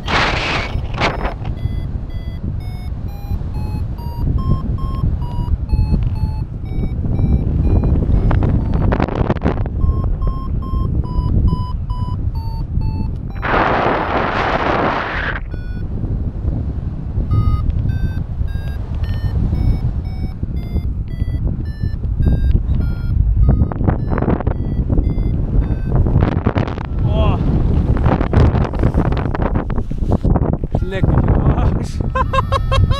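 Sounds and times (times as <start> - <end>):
wind noise on microphone: 0.0 - 32.9
variometer beeping: 0.3 - 15.9, 17.3 - 27.2, 32.0 - 32.9.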